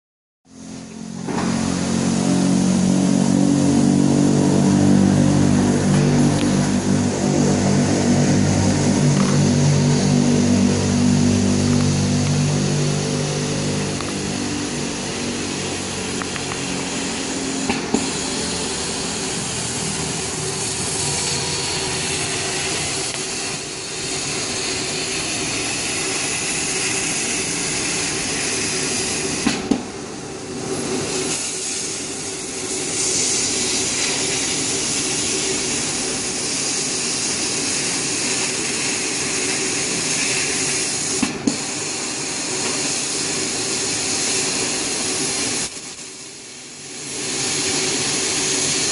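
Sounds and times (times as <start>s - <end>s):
machine running: 0.5s - 48.9s
air blowing hiss: 0.6s - 48.9s.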